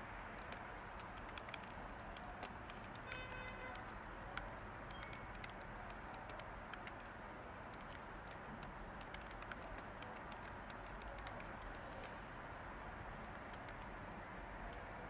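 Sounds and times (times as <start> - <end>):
keyboard key clicks: 0.4 - 12.2, 13.2 - 13.9.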